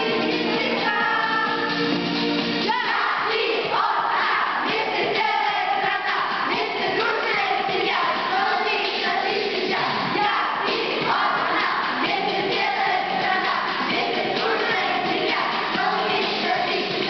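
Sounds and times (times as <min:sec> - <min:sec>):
children singing together: 0:00.0 - 0:01.8, 0:02.6 - 0:17.0
backing music: 0:00.0 - 0:17.0.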